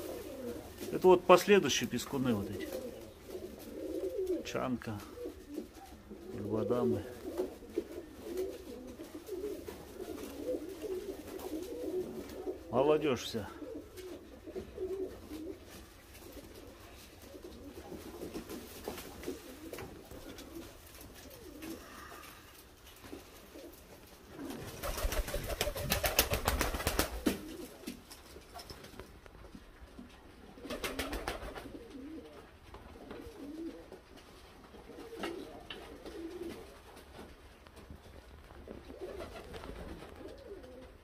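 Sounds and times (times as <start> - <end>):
pigeons cooing softly: 0.0 - 41.0.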